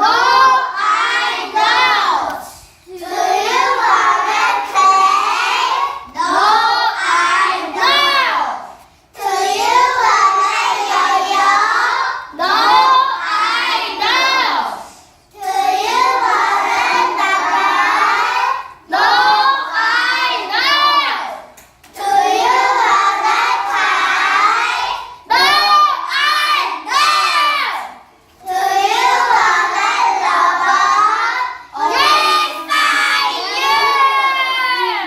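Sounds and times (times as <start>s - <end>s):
children singing together: 0.0s - 35.0s.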